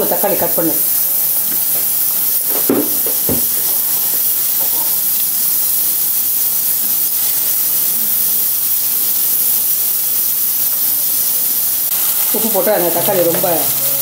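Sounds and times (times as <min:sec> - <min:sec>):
tomatoes sizzling in hot oil: 0:00.0 - 0:14.0.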